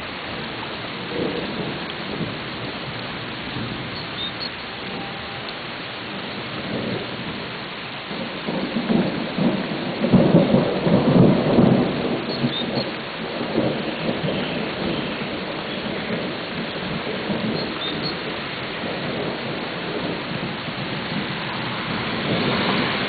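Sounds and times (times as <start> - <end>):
steady rain falling: 0.0 - 23.0
thunder rumbling: 0.0 - 23.0.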